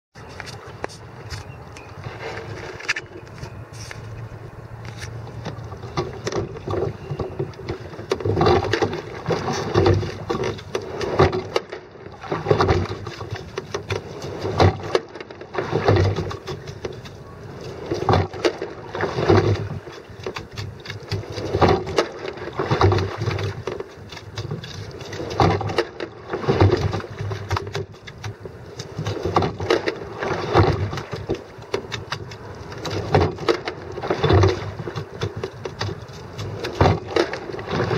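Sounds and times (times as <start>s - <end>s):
oar blades splashing: 0.2s - 37.9s
oars knocking in oarlocks: 0.2s - 37.9s.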